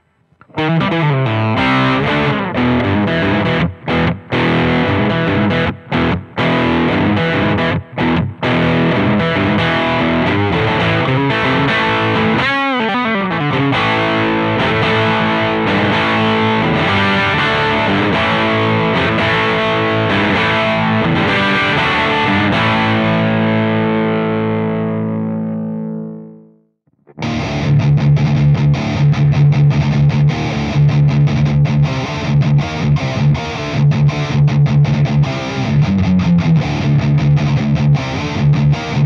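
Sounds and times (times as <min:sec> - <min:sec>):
distorted electric guitar chords: 0:00.0 - 0:39.0.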